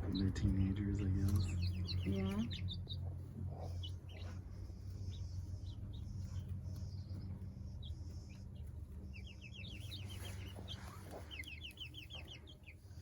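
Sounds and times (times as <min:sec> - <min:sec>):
chicks peeping and chirping: 0:00.0 - 0:13.0
low hum: 0:00.0 - 0:13.0.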